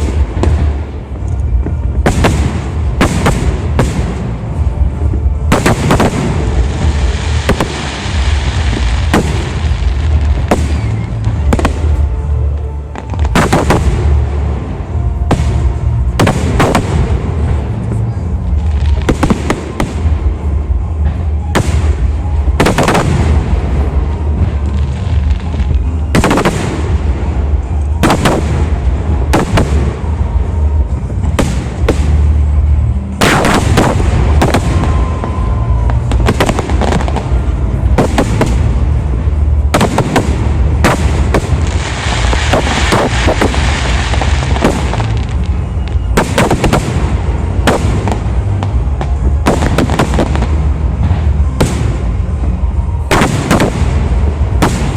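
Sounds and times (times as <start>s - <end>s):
fireworks crackling: 0.0s - 54.9s
low rumble: 0.0s - 54.9s.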